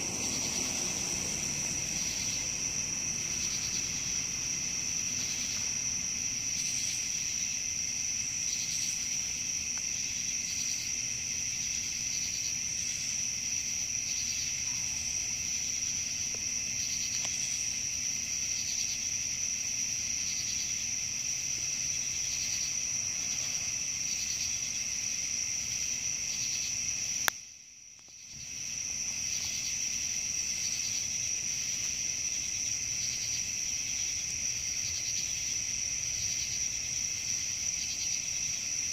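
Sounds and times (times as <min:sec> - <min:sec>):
night insects trilling: 0:00.0 - 0:38.9.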